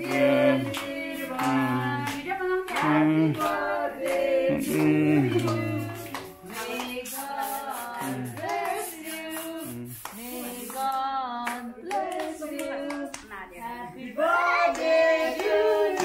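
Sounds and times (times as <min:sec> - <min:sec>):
hands clapping: 0:00.0 - 0:13.4, 0:14.7 - 0:16.0
group of voices singing: 0:00.0 - 0:16.0.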